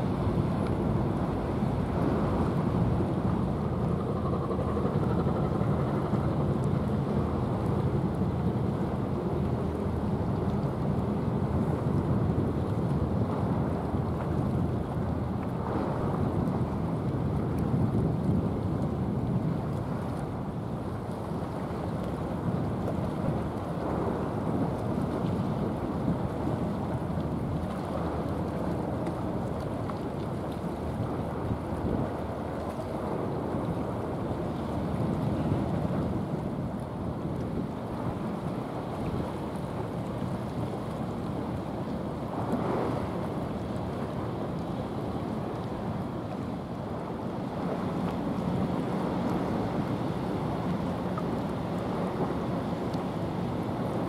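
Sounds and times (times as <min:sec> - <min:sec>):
sea wash: 0:00.0 - 0:54.0
ship engine rumble: 0:00.0 - 0:54.0.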